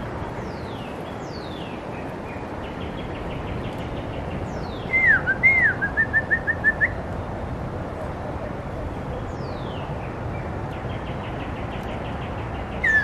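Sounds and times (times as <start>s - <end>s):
songbird singing: 0.0s - 7.3s, 8.0s - 13.0s.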